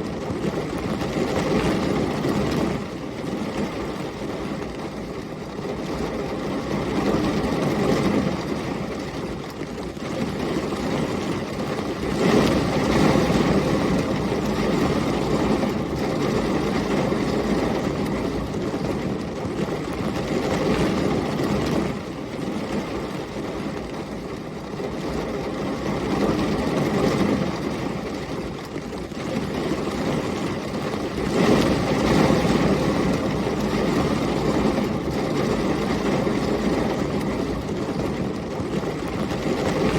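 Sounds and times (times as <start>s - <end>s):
heavy rain: 0.0s - 39.9s
storm wind: 0.0s - 39.9s.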